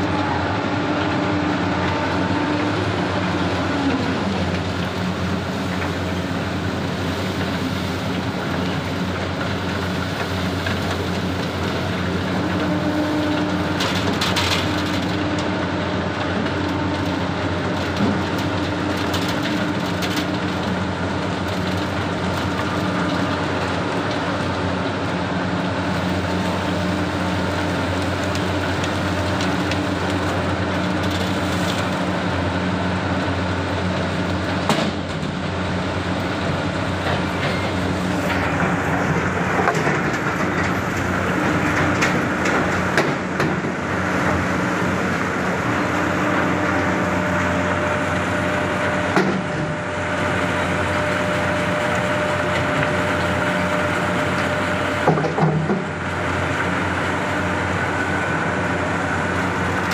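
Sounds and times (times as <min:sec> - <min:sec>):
mill machinery droning: 0:00.0 - 0:59.9.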